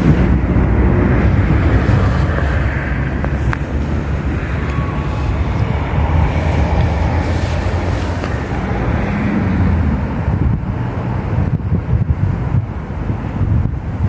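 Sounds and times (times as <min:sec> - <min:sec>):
train passing with low rumble: 0:00.0 - 0:14.0.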